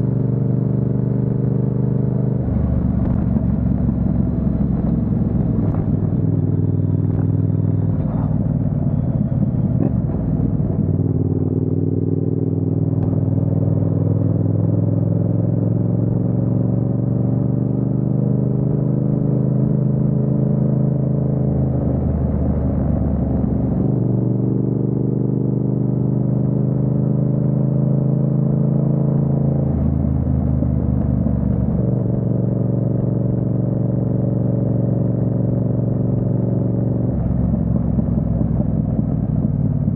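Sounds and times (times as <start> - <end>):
motorcycle engine running: 0.0 - 18.3, 19.2 - 39.9.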